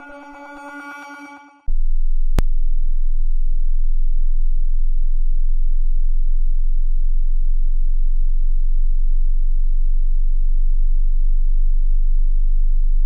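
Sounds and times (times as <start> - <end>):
low sine-wave test tone: 0.0 - 13.0.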